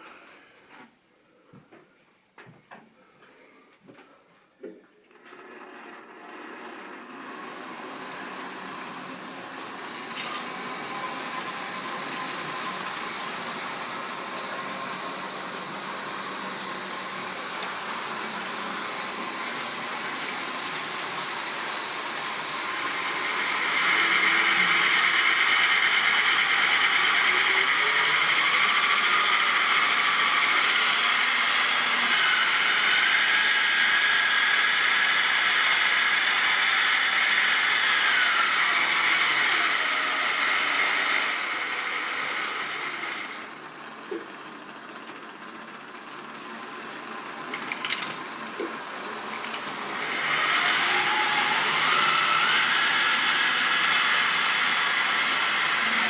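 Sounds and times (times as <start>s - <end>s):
electric motor whine: 5.2s - 44.3s, 47.6s - 56.0s.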